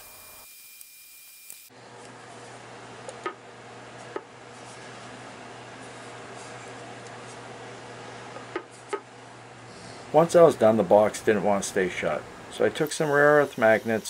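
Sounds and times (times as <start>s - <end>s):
steady low hum: 1.7s - 14.0s.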